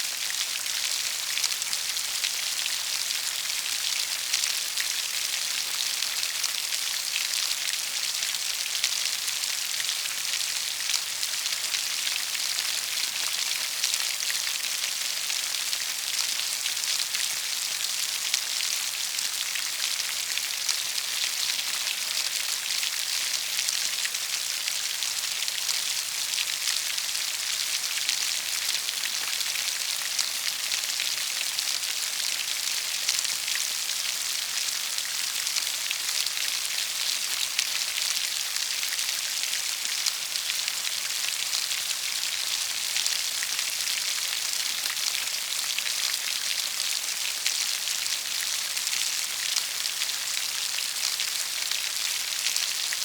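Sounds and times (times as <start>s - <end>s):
rain falling steadily: 0.0s - 53.0s.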